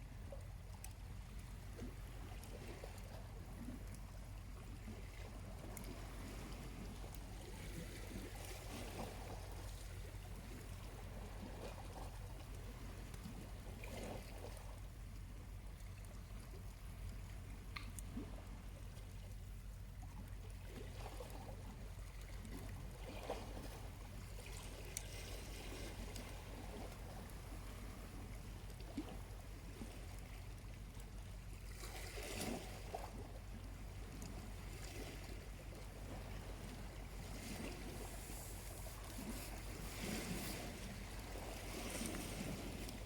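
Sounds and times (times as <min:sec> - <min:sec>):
low steady rumble: 0:00.0 - 0:43.0
small waves lapping on shore: 0:00.0 - 0:43.0.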